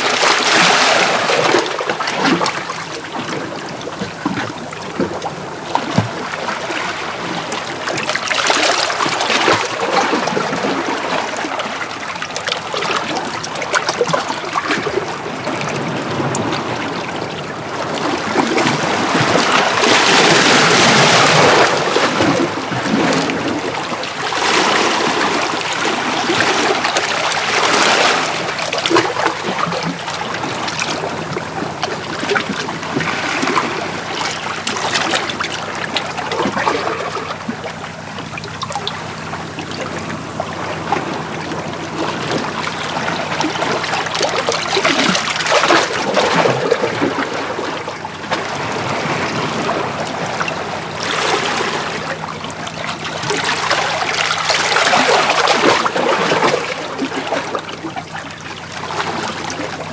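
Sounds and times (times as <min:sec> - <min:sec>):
waves washing against rocks: 0:00.0 - 0:59.9.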